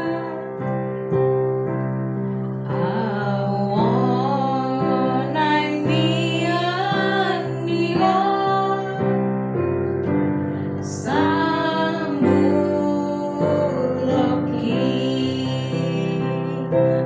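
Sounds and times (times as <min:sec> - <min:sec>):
woman singing: 0:00.0 - 0:00.8, 0:02.6 - 0:09.3, 0:10.8 - 0:17.0
digital piano chords: 0:00.0 - 0:17.0.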